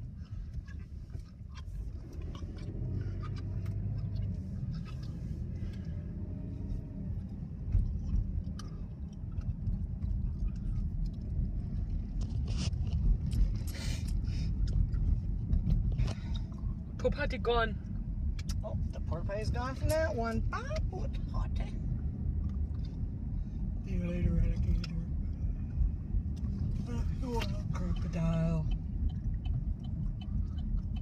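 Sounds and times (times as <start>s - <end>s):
road and engine rumble: 0.0s - 31.0s.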